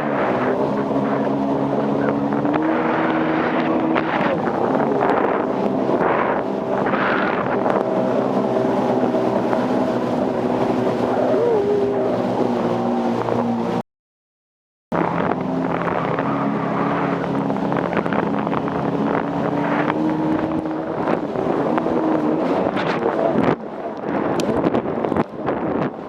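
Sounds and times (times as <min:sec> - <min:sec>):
jet ski engine running: 0:00.0 - 0:13.8, 0:14.9 - 0:26.0
wind buffeting microphone: 0:00.0 - 0:13.8, 0:14.9 - 0:26.0.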